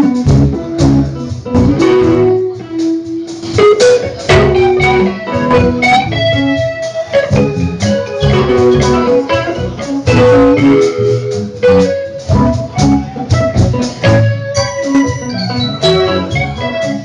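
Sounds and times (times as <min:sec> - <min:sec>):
bass guitar: 0:00.0 - 0:17.0
electric guitar: 0:00.0 - 0:17.0
steady drum beat: 0:00.0 - 0:17.0.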